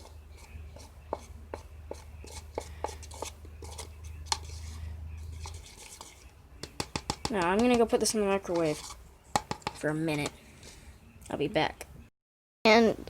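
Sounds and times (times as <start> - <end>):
spoon knocking and scraping bowl: 0.0 - 10.8
steady low hum: 0.0 - 11.2.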